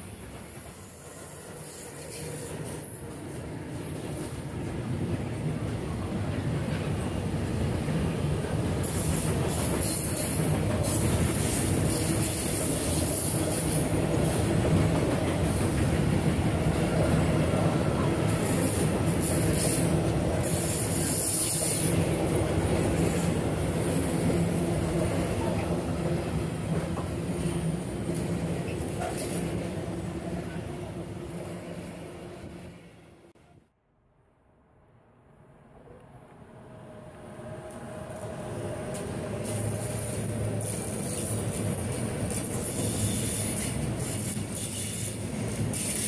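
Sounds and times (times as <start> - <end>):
freight train wheels rumbling on rail: 0.0 - 32.9, 36.9 - 46.0.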